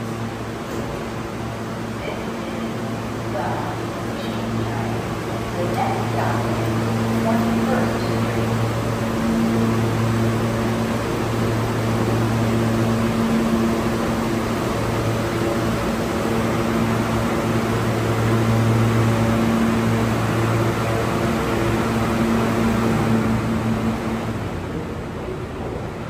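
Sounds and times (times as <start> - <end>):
machine hum: 0.0 - 26.0
ventilation rushing noise: 0.0 - 26.0.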